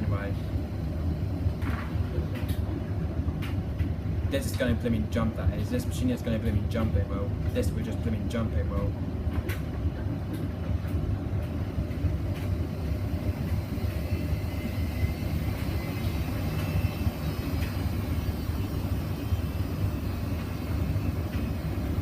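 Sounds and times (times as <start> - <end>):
faint motor whine: 0.0 - 22.0
washing machine drum rumble: 0.0 - 22.0.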